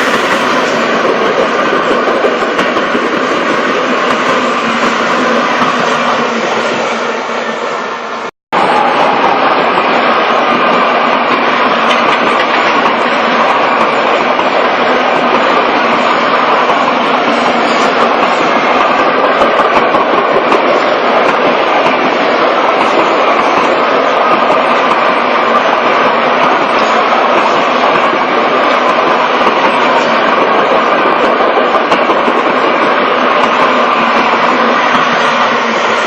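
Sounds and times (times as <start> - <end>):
train rushing on rails: 0.0 - 36.0.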